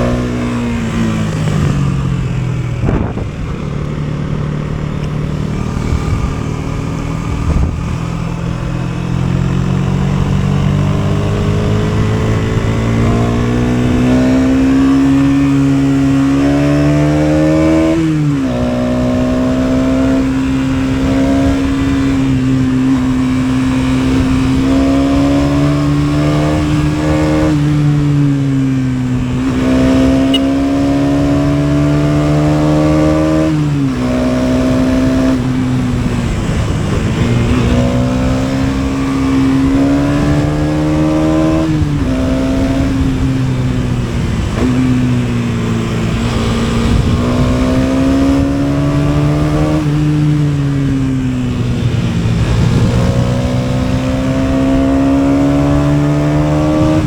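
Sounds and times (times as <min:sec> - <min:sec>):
motorcycle engine pulling under load: 0:00.0 - 0:57.0.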